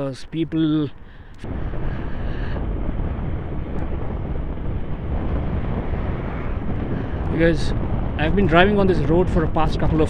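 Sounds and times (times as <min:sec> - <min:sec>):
tyre and road noise: 0:00.0 - 0:10.0
wind rushing over microphone: 0:00.0 - 0:10.0.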